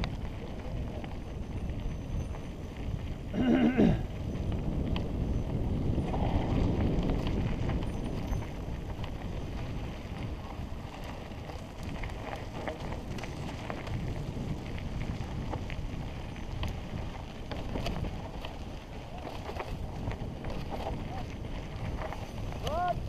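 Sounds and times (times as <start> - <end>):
bike clicks and rattles: 0.0 - 23.0
bike tyres rumbling on dirt: 0.0 - 23.0
wind buffeting camera: 0.0 - 23.0.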